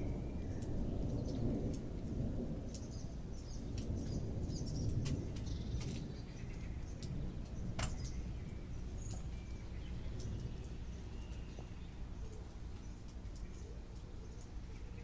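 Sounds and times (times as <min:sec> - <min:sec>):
birds chirping: 0:00.0 - 0:15.0
distant thunder rumble: 0:00.0 - 0:15.0.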